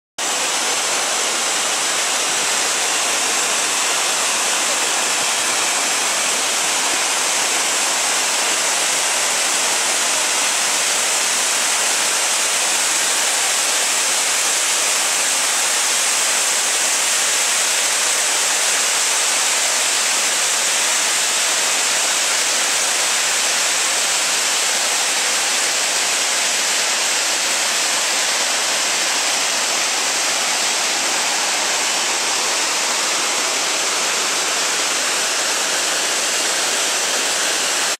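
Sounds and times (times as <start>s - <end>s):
waterfall rushing onto rocks: 0.2s - 37.9s.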